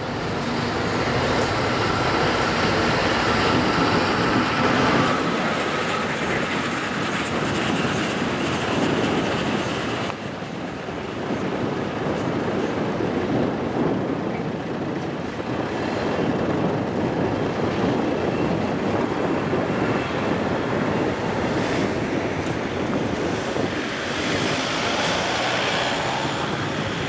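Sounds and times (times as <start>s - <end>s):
train rumble: 0.0s - 27.0s
wind rushing over microphone: 0.0s - 27.0s.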